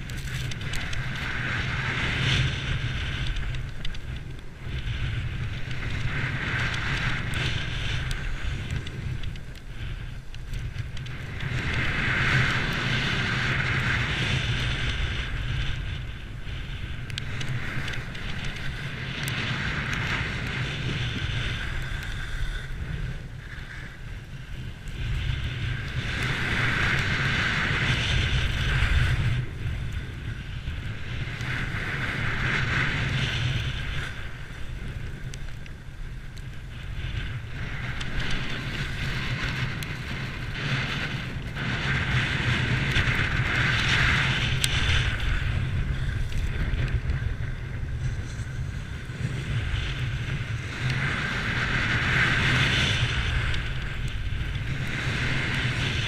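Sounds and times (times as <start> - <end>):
skis scraping over snow: 0.0 - 56.0
wind buffeting microphone: 0.0 - 56.0.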